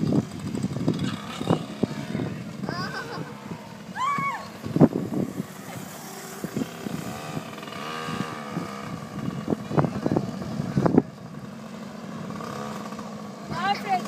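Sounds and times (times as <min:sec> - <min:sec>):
small motorcycle engine revving: 0:00.0 - 0:14.0.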